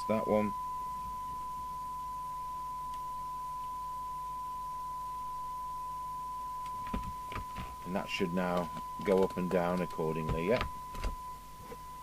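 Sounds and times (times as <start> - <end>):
steady test tone: 0.0 - 12.0.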